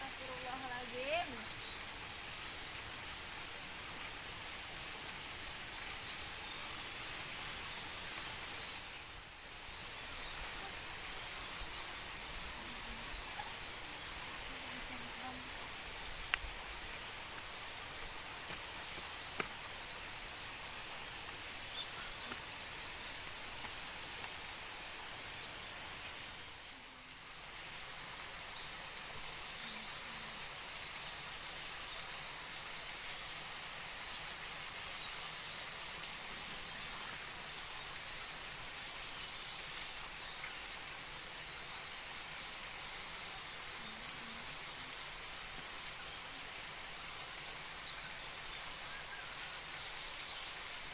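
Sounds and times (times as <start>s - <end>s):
high-pitched insect chorus: 0.0s - 50.9s.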